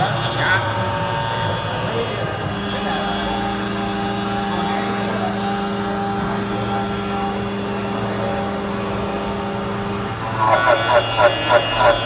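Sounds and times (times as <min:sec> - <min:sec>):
drilling machine humming: 0:00.0 - 0:12.0.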